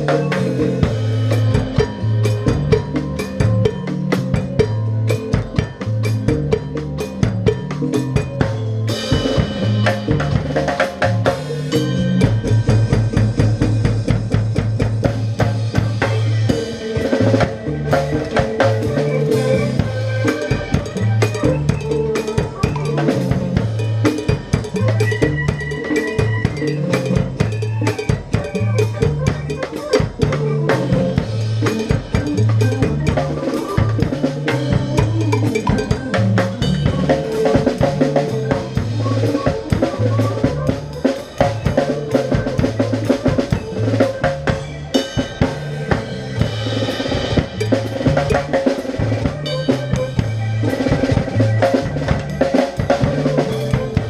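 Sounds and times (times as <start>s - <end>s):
drum kit playing busy beat: 0.0s - 54.0s
repeating bass line: 0.0s - 54.0s.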